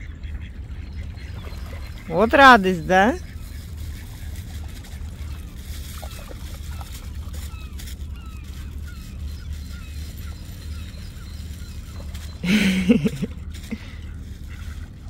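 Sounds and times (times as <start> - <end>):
steady low rumble: 0.0 - 15.0
waterfowl sliding calls: 0.3 - 15.0.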